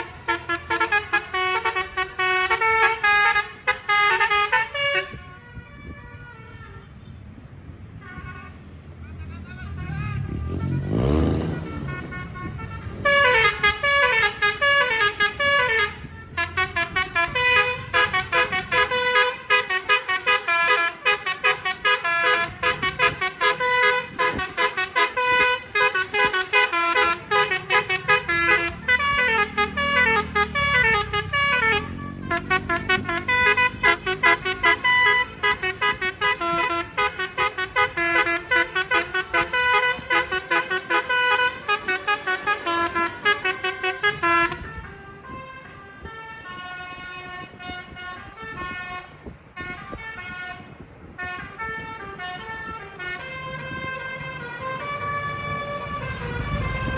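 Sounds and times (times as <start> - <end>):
bus multi-tone horn playing notes: 0.0 - 7.3, 7.9 - 56.9.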